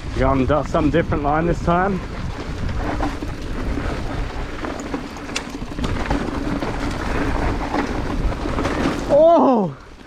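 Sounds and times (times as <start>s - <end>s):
bike knocking and rattling: 0.0s - 10.0s
bike tyres crunching over dirt: 0.0s - 10.0s.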